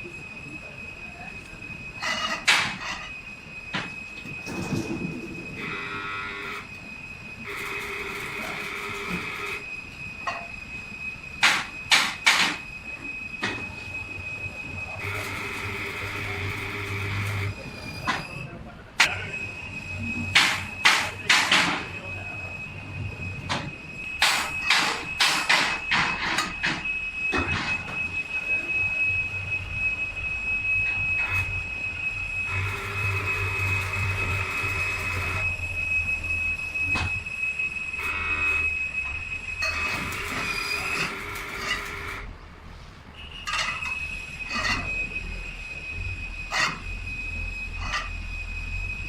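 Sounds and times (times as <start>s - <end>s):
steady high whine: 0.0s - 49.0s.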